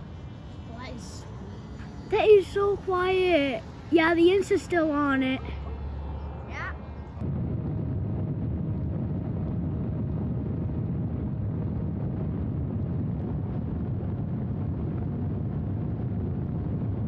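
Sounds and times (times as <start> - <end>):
electric motor and propeller hum: 0.0 - 17.0
wind rush on microphone: 0.0 - 17.0.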